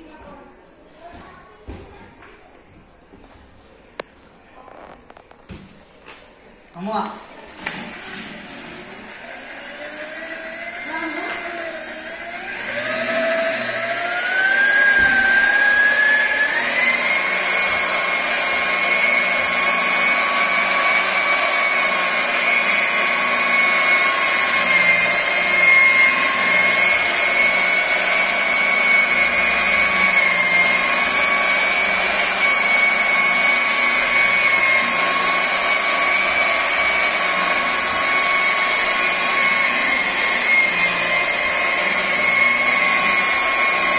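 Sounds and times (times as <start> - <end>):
car polisher motor whine: 7.5 - 43.9.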